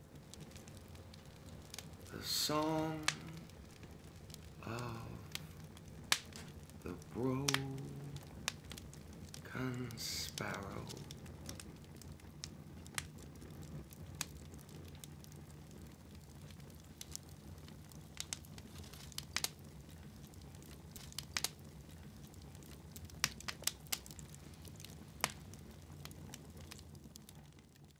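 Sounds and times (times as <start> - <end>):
sharp clicks and crackles: 0.2 - 27.9.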